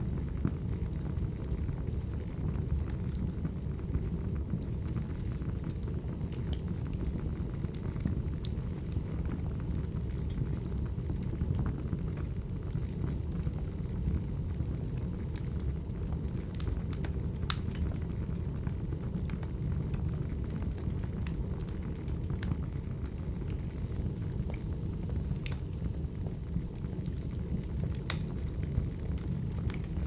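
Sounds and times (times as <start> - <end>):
fire crackles and pops: 0.0 - 30.0
fire rumble: 0.0 - 30.0.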